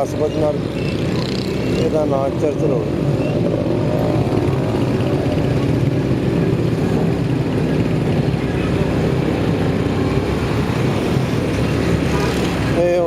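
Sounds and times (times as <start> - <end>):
street traffic: 0.0 - 13.0
motorcycle engine running: 0.5 - 13.0.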